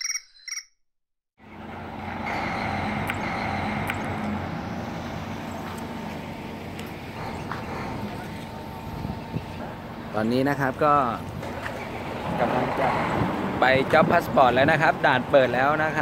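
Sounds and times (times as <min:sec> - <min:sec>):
idling vehicle engines: 0:01.4 - 0:16.0
outdoor noise: 0:01.4 - 0:16.0.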